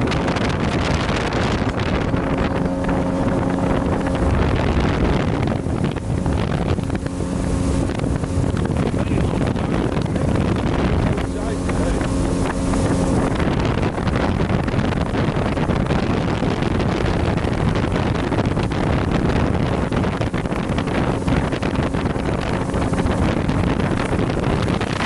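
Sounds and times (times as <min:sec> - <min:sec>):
low rumble: 0:00.0 - 0:25.0
wind buffeting microphone: 0:00.0 - 0:25.0.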